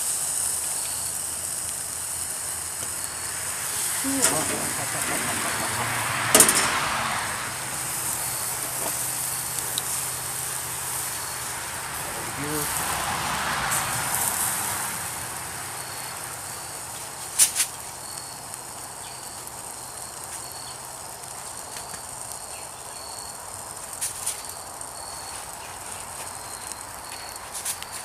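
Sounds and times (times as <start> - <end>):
outdoor hiss: 0.0 - 28.0
insect chirping in pulses: 0.6 - 13.2, 14.0 - 27.5.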